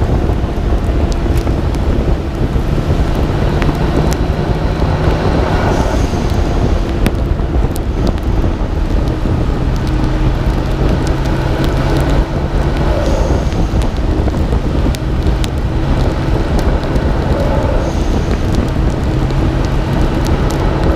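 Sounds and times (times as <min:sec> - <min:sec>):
rain noise: 0:00.0 - 0:20.9
wind noise: 0:00.0 - 0:20.9.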